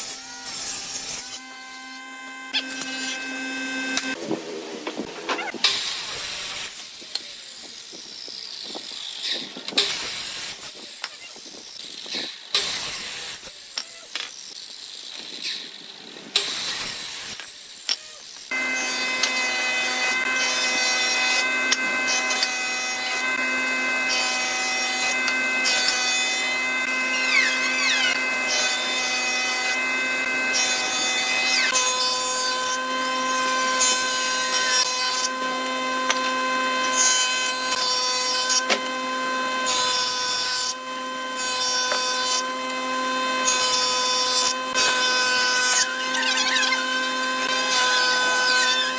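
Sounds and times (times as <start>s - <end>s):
power tool whining: 0.0s - 48.9s.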